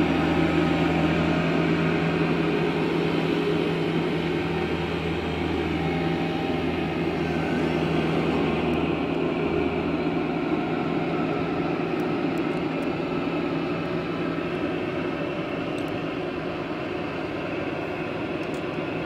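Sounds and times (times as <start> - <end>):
loader engine running: 0.0 - 19.0
low hum: 0.0 - 19.0.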